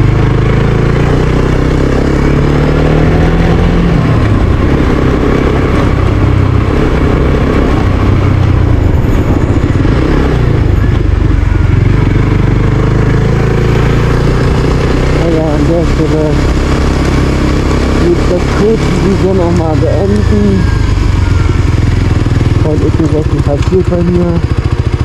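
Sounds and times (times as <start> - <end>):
motorcycle engine on cobblestones: 0.0 - 25.0.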